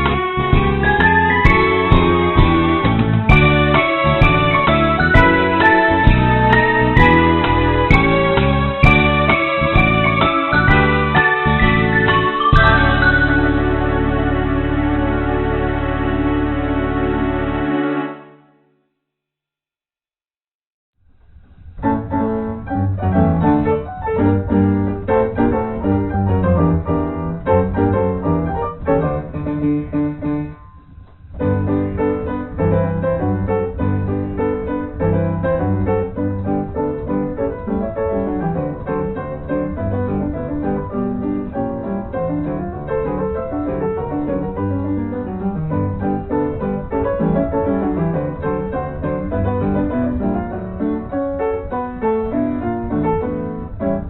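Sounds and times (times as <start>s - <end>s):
background piano music: 0.0s - 18.7s, 21.3s - 54.0s.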